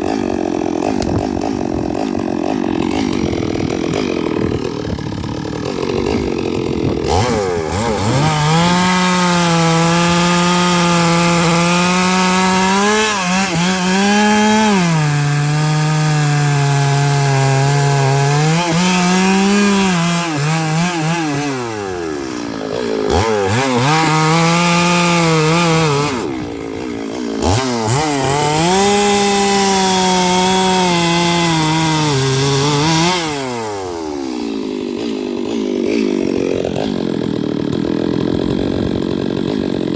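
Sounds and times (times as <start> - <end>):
chainsaw cutting through logs: 0.0 - 39.9.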